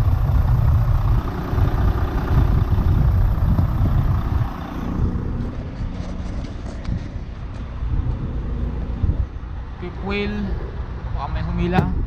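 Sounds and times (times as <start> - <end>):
diesel truck engine idling: 0.0 - 11.2.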